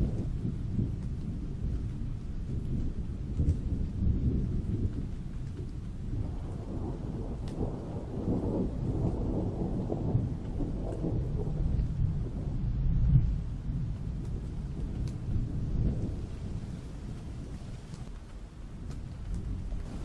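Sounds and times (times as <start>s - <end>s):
rolling thunder: 0.0s - 20.0s
steady rain: 0.0s - 20.0s.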